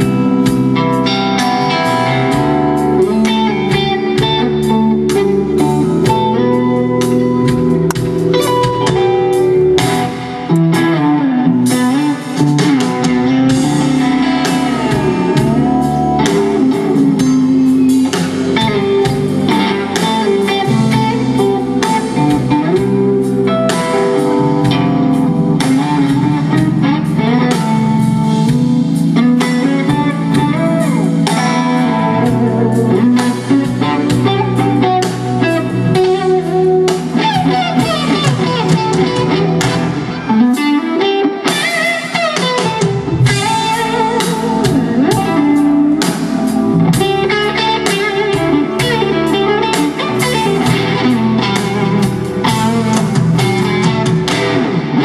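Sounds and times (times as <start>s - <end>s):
drums: 0.0s - 55.0s
electric bass: 0.0s - 55.0s
lead electric guitar with vibrato: 0.0s - 55.0s.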